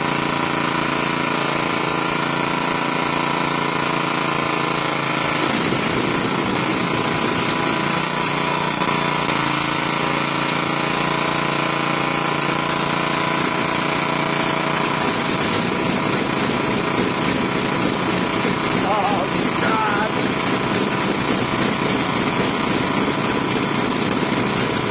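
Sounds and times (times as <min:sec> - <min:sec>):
engine humming with rattle: 0:00.0 - 0:24.9.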